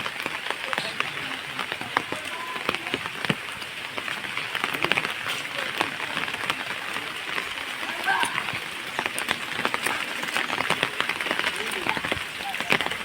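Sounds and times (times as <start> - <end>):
raindrops ticking on a surface: 0.0 - 13.0
steady rain hiss: 0.0 - 13.0.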